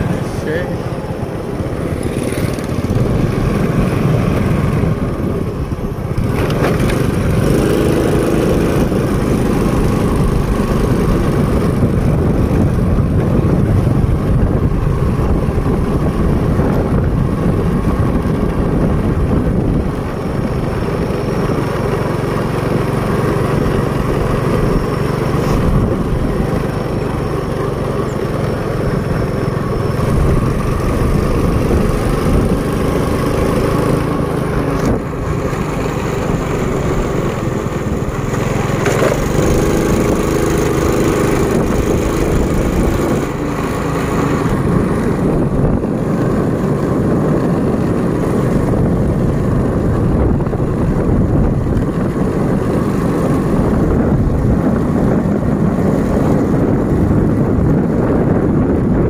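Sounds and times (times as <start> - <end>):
motorcycle engine drone: 0.0 - 59.0
road noise: 0.0 - 59.0.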